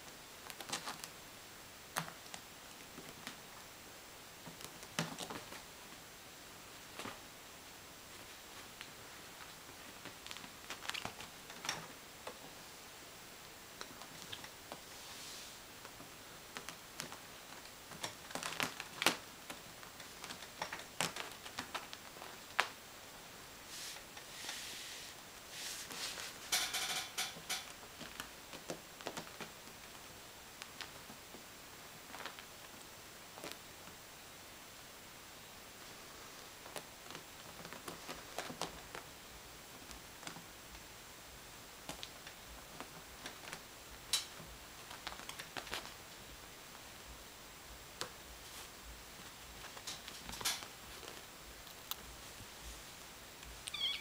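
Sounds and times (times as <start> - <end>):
rustling: 0.0 - 1.2, 4.3 - 13.1, 13.7 - 34.0, 35.7 - 54.0.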